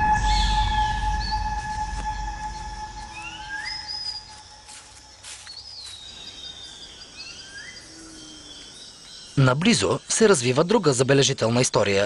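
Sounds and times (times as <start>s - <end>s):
birds whistling: 0.0s - 10.0s.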